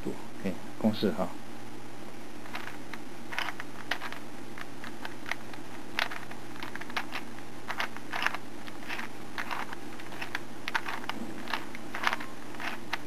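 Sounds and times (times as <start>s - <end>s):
steady low hum: 0.0s - 13.0s
puzzle cube clicking: 2.4s - 13.0s.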